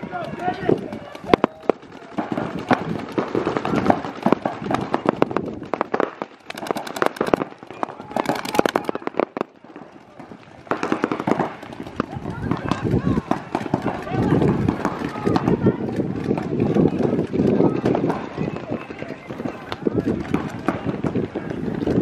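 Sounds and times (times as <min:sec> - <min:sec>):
paintball markers firing: 0:00.1 - 0:22.0.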